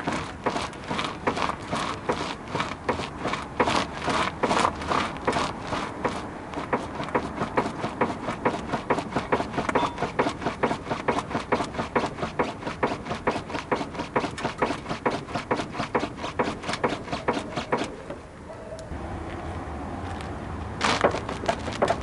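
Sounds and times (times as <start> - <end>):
rapid knocking from car steering: 0.0 - 17.9, 21.0 - 22.0.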